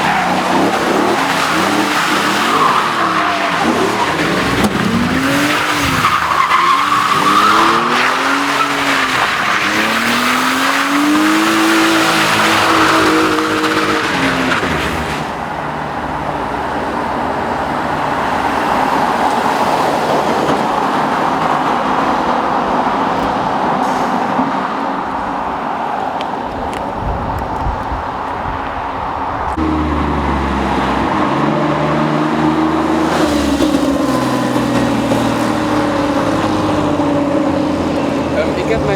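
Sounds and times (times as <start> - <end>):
car engine revving: 0.0 - 38.9
tyres squealing and skidding: 0.0 - 38.9.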